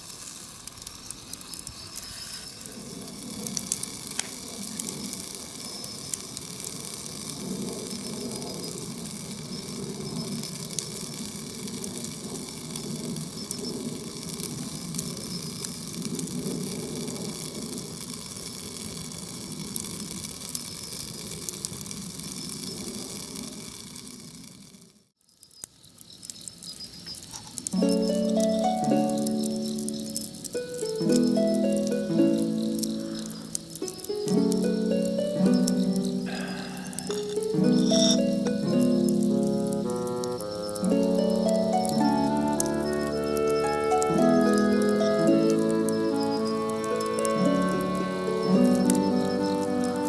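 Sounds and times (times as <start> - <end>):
faint insect chirping: 0.0 - 17.5, 19.9 - 50.0
campfire crackling and popping: 0.0 - 50.0.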